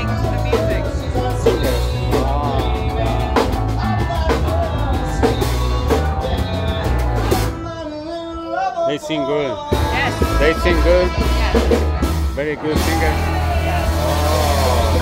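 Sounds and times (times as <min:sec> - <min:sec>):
drum kit steady beat: 0:00.0 - 0:07.8, 0:09.6 - 0:15.0
electric guitars: 0:00.0 - 0:07.8, 0:09.3 - 0:15.0
bass guitar: 0:00.0 - 0:15.0
keyboard: 0:00.0 - 0:15.0.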